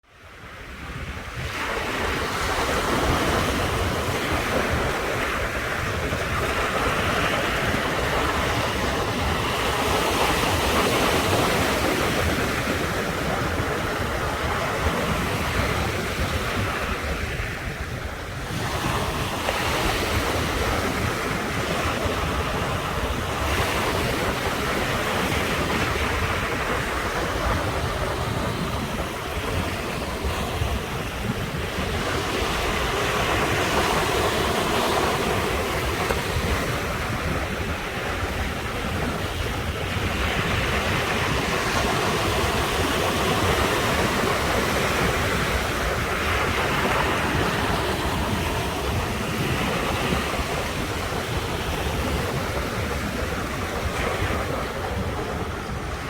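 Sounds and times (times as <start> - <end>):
wind rumbling on microphone: 0.0 - 56.0
ocean surf breaking: 0.3 - 56.0.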